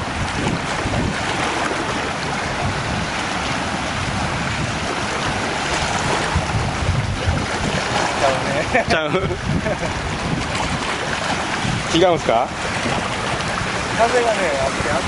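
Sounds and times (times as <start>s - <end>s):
waves washing against rocky shore: 0.0s - 15.0s
wind buffeting microphone: 0.0s - 15.0s.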